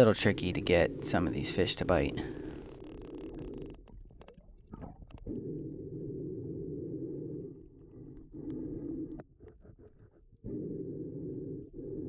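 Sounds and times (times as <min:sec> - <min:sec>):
underwater rumbling: 0:00.0 - 0:12.0.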